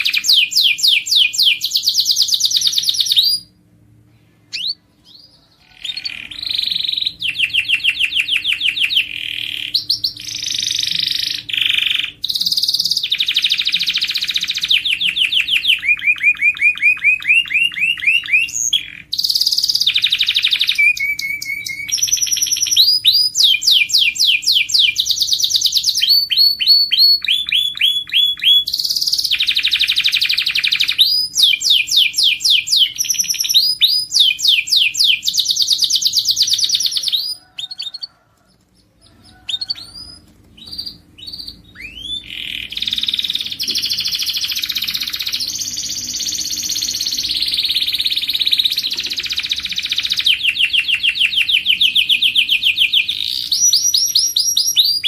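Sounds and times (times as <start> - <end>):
canary chirps: 0.0 - 3.6, 4.2 - 55.0
canary singing trills: 0.0 - 3.6, 4.4 - 55.0.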